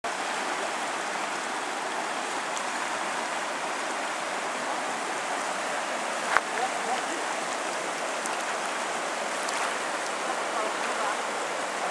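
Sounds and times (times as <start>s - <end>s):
river water rushing over stones: 0.1s - 11.9s.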